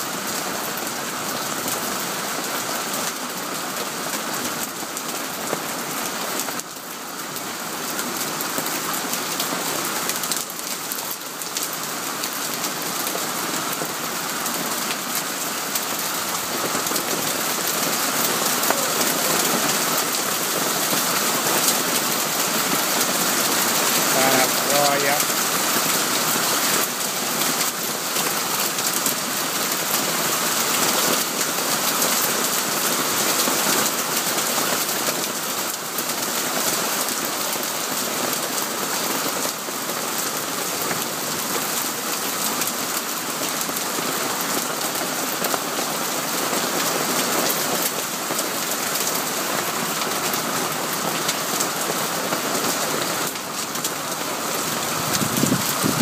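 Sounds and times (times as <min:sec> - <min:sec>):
hail and heavy rain on paving: 0:00.0 - 0:56.0.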